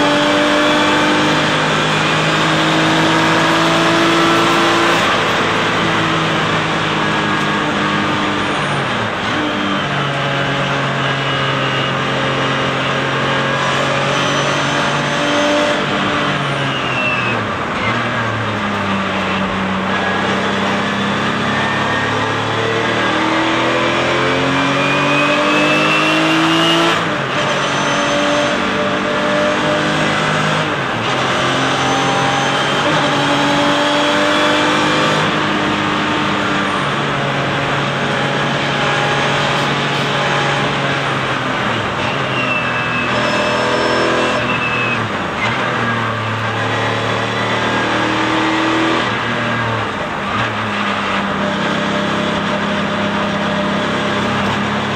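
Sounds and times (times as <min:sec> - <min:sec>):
race car engine revving: 0:00.0 - 0:54.9
road and wind noise: 0:00.0 - 0:54.9.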